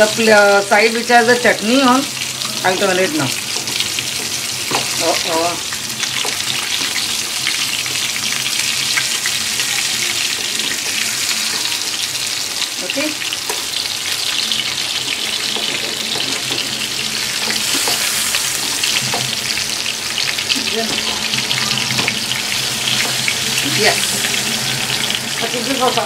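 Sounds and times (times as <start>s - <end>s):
fish frying in oil: 0.0s - 26.0s.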